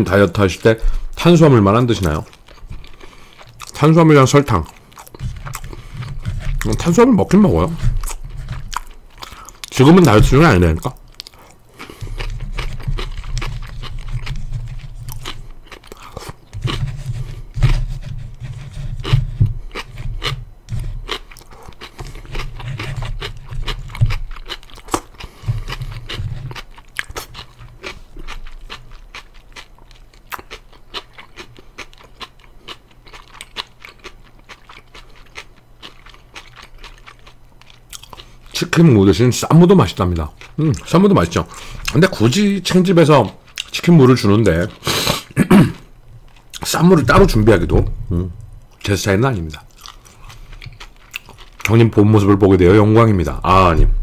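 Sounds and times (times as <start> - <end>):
crunchy bites and chewing: 1.8 - 38.8, 39.5 - 51.8.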